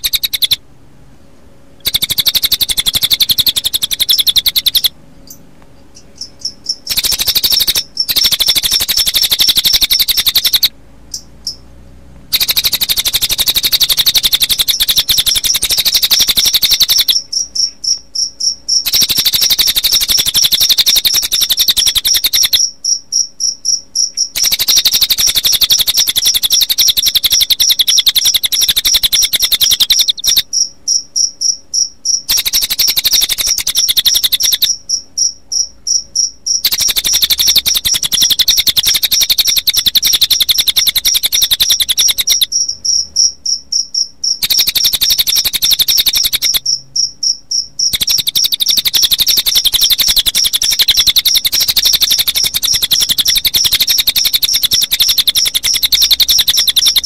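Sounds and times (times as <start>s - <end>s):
bird song pulsing trill: 0.0s - 0.6s, 1.8s - 57.0s
crickets chirping: 0.0s - 0.6s, 1.8s - 11.7s, 12.3s - 57.0s.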